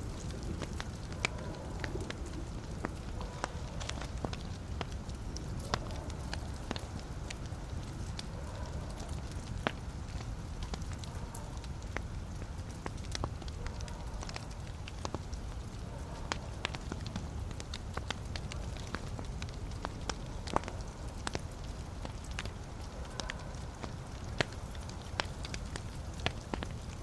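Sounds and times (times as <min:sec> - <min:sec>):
burning logs crackling and popping: 0:00.0 - 0:27.0
low rumble of flames: 0:00.0 - 0:27.0.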